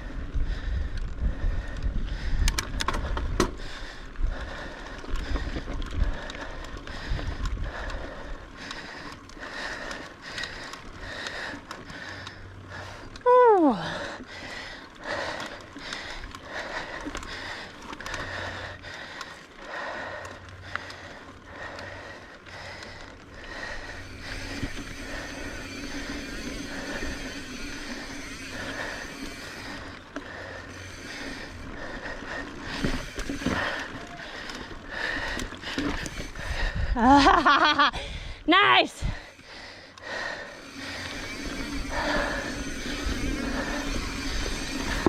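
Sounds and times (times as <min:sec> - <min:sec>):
bike rattling over bumps: 0:00.0 - 0:45.0
bike tyres on dirt trail: 0:00.0 - 0:45.0.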